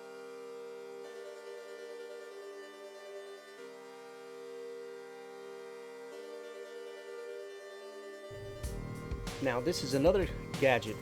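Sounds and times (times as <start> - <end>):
background music of sustained chords: 0.0 - 11.0.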